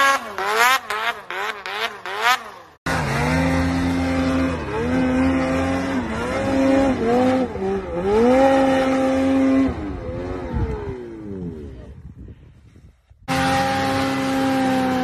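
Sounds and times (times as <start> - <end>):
snowmobile engine revving: 0.0 - 12.0, 13.2 - 15.0.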